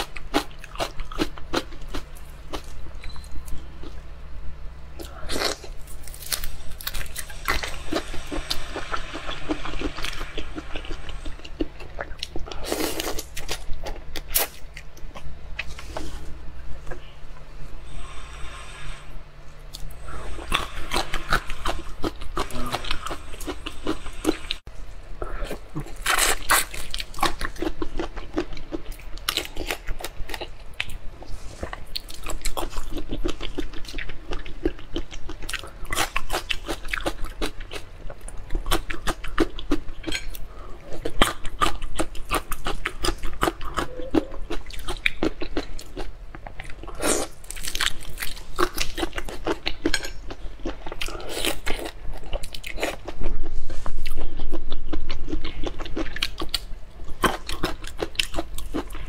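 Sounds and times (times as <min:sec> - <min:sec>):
crunching and chewing shrimp: 0:00.0 - 0:04.1, 0:05.0 - 0:16.3, 0:19.7 - 0:24.7, 0:25.4 - 0:59.0.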